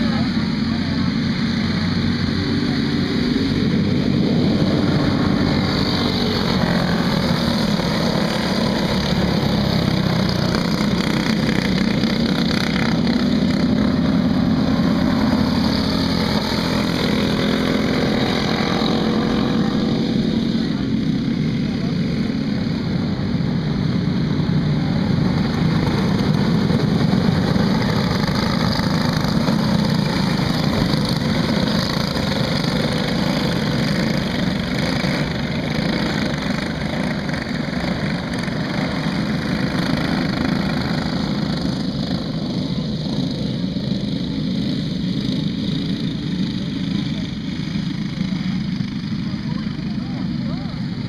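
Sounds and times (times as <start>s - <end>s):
go-kart engines droning: 0.0s - 51.0s.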